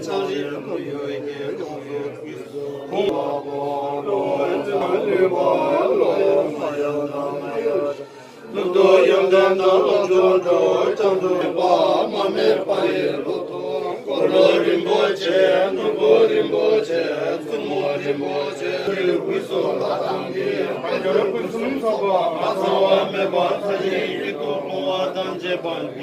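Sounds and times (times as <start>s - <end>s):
men chanting prayer: 0.0s - 26.0s.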